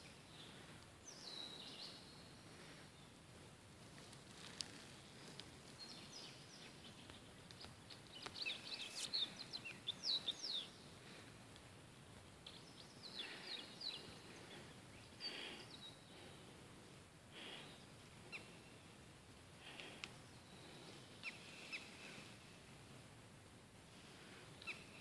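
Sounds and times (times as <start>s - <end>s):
small birds chirping: 0.0s - 11.4s, 12.3s - 16.7s, 17.3s - 22.7s, 24.0s - 25.0s
faint outdoor hiss: 0.0s - 25.0s.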